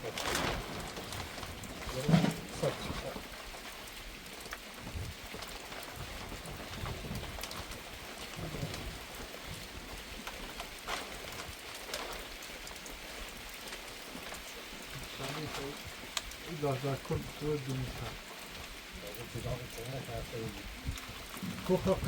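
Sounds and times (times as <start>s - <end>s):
sharp raindrop hits: 0.0s - 22.0s
steady rain falling: 0.0s - 22.0s.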